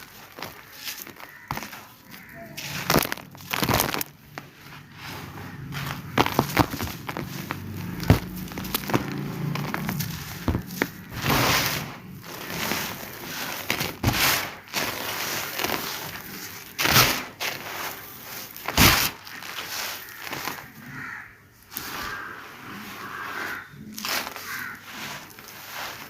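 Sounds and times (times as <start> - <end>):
dried cement crumbling: 0.0 - 26.0.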